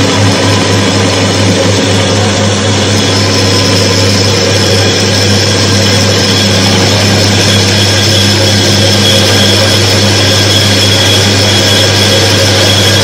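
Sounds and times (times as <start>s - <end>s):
electric motor humming: 0.0s - 13.0s
faint high whine: 0.0s - 13.0s.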